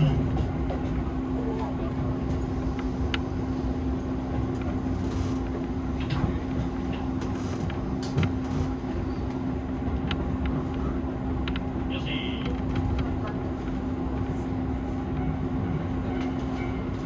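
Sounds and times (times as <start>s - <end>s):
constant low hum: 0.0s - 17.0s
wheels running on rail: 0.0s - 17.0s.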